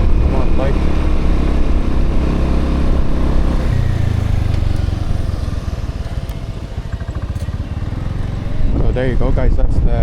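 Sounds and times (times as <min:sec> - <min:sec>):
motorbike engine labouring uphill: 0:00.0 - 0:10.0.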